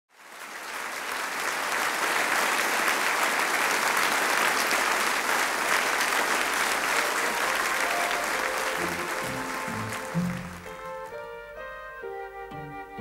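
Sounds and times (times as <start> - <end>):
audience applauding: 0.1 - 11.3.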